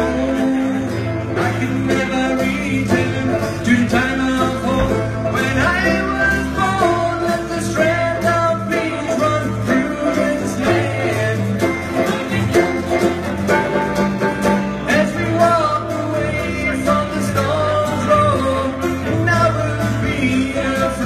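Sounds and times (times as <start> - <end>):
man singing: 0.0 - 13.2, 14.7 - 21.0
folk-rock band playing: 0.0 - 21.0.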